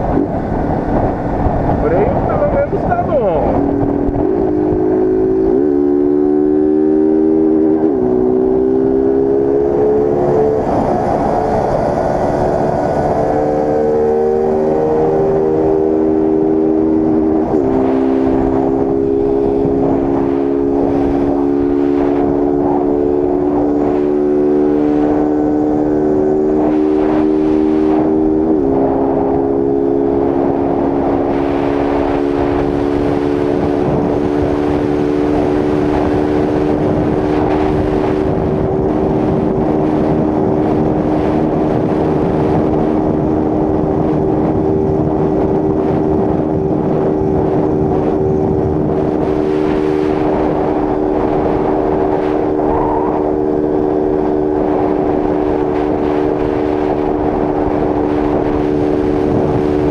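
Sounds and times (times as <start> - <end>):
motorcycle engine at full throttle: 0.0 - 59.9.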